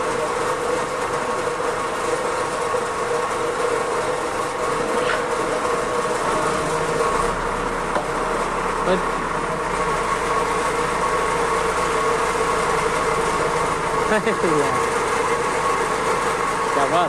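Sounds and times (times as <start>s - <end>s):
machine whining: 0.0s - 17.0s.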